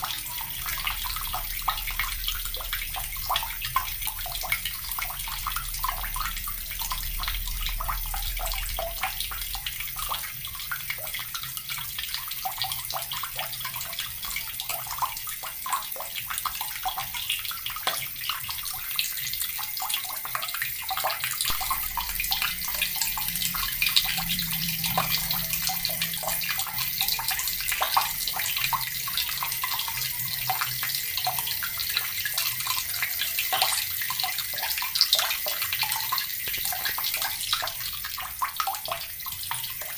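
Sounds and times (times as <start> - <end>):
tap water splashing into bucket: 0.0 - 39.9.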